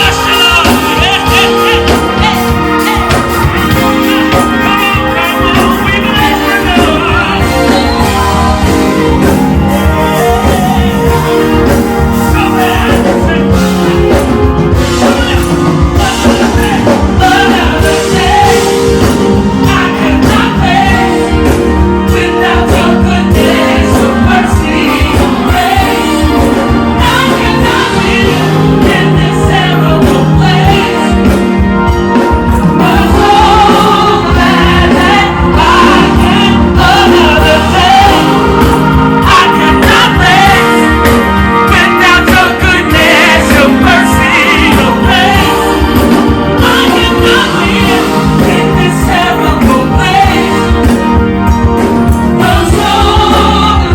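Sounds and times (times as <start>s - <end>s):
gospel choir singing: 0.0s - 53.9s
instrumental backing with beat: 0.0s - 53.9s.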